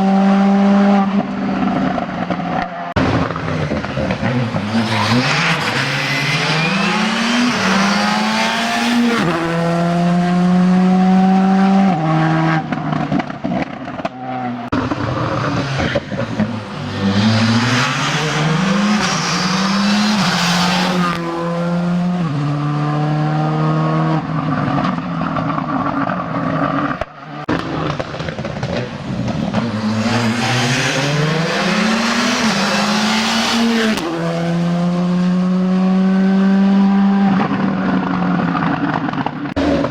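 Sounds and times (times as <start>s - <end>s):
rally car engines accelerating: 0.0s - 39.9s.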